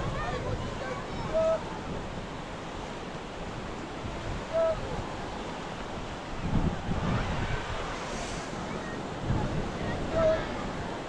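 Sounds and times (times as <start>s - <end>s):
ocean surf on beach: 0.0s - 11.0s
wind buffeting microphone: 0.0s - 11.0s.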